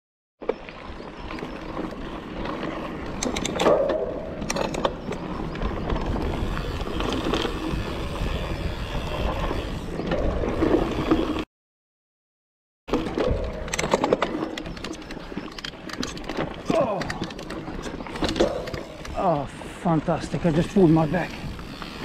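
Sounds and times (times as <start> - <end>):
bike tyres rolling over dirt: 0.4 - 11.4, 12.9 - 22.0
bike rattling: 0.4 - 11.5, 12.9 - 22.0
wind rumbling on microphone: 0.6 - 11.3, 12.9 - 22.0.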